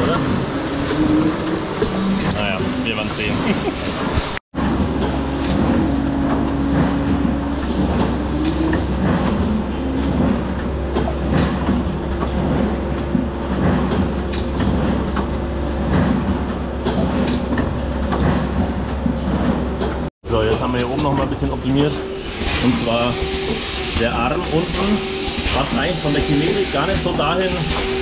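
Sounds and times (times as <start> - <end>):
machine hum and clatter: 0.0 - 28.0.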